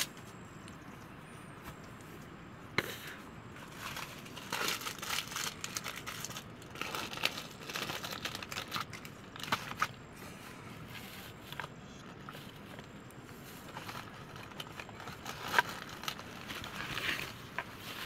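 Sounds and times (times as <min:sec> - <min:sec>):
crinkling and rustling: 0:03.5 - 0:18.0.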